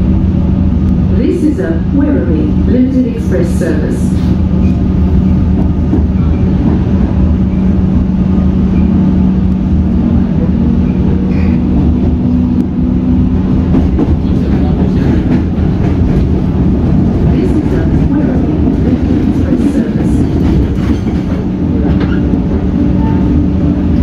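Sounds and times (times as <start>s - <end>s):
train hum: 0.0s - 24.0s
wheels rumbling on track: 0.0s - 24.0s.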